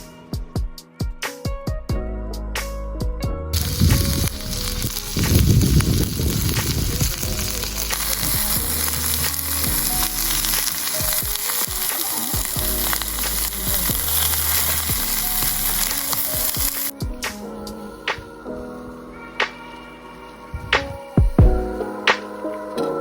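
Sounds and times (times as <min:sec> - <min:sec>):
background music with bass notes: 0:00.0 - 0:23.0
sausages sizzling: 0:03.6 - 0:22.8.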